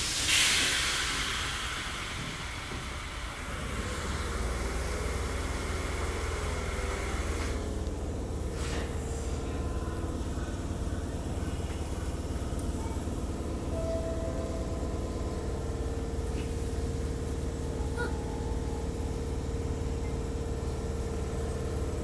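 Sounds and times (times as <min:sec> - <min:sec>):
train equipment low hum: 0:00.0 - 0:22.0.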